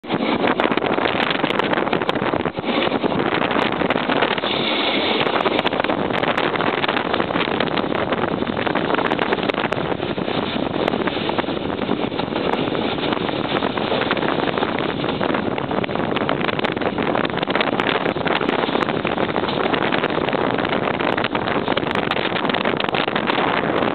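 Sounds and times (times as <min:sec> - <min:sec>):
diesel railcar engine: 0:00.0 - 0:23.9
wheels on track: 0:00.0 - 0:23.9
wind on microphone: 0:00.0 - 0:23.9.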